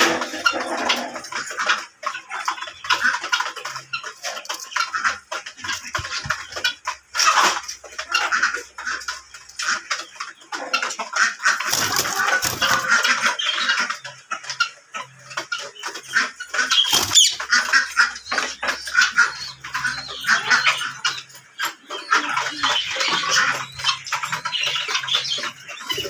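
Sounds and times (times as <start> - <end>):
parakeets chattering: 0.0 - 26.0.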